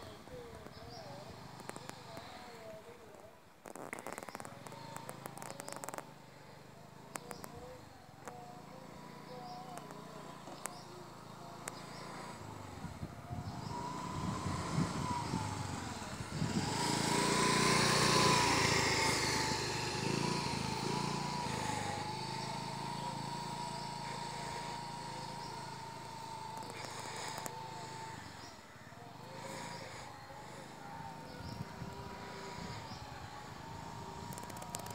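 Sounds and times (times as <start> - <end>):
motor scooter riding by: 0.0 - 34.9.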